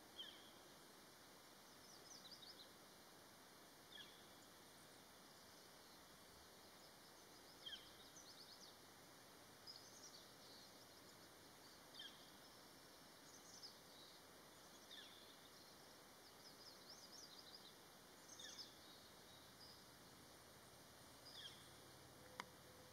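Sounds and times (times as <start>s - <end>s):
faint bird chirps: 0.0s - 0.9s, 1.5s - 22.9s
quiet steady hiss: 0.0s - 22.9s.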